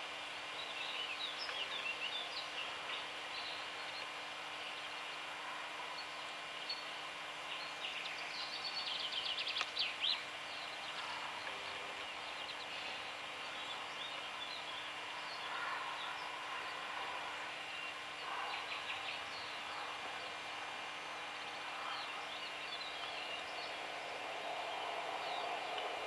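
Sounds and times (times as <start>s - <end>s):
outdoor background hiss: 0.0s - 26.0s
small birds chirping: 0.5s - 26.0s.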